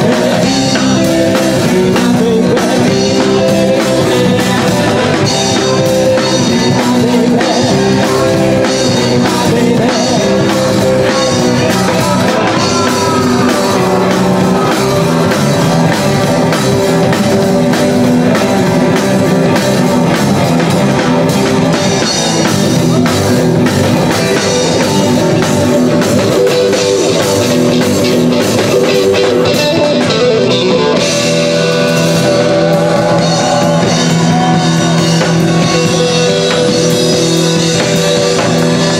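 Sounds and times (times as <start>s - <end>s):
drum kit: 0.0s - 38.9s
electric guitar: 0.0s - 38.9s
upright double bass: 0.0s - 38.9s.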